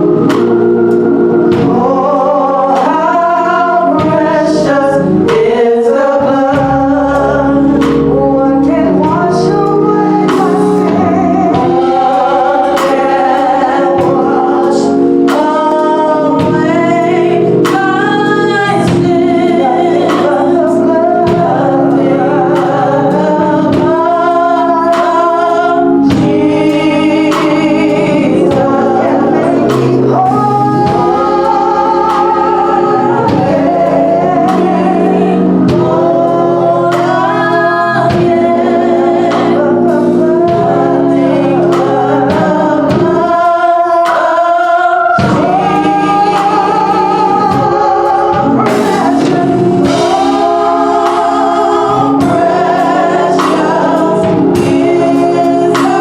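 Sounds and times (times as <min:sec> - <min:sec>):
accompaniment chords: 0:00.0 - 0:56.0
gospel choir singing: 0:00.0 - 0:56.0.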